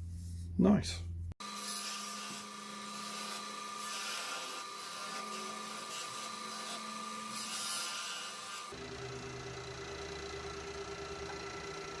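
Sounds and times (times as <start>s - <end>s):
turning tool cutting wood: 1.4s - 11.6s
wood lathe whining: 1.4s - 12.0s.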